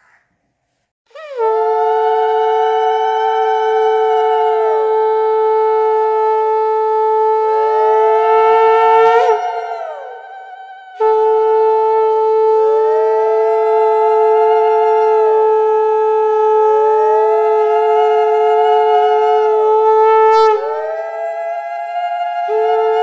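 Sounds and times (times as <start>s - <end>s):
conch shell blows bending in pitch: 1.1s - 23.0s
conch shell steady note: 1.1s - 23.0s.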